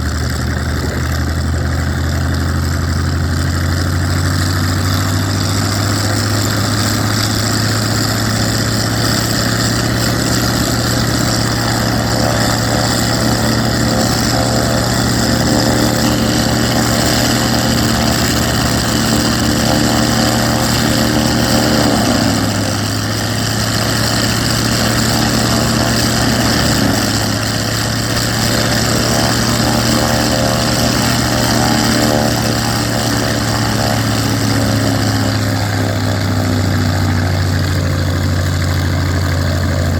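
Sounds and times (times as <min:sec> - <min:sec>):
radial piston engine running: 0:00.0 - 0:39.9.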